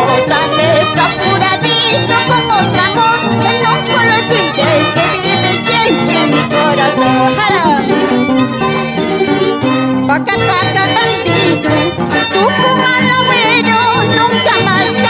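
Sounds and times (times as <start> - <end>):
folk string band playing: 0.0 - 15.0
violins sliding melody: 0.0 - 15.0.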